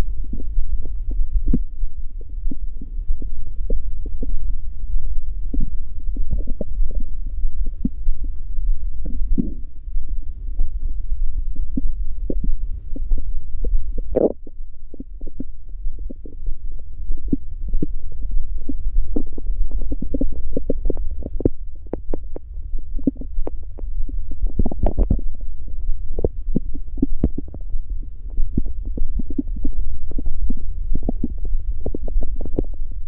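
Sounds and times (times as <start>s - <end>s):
stomach growling and gurgling: 0.0s - 33.0s.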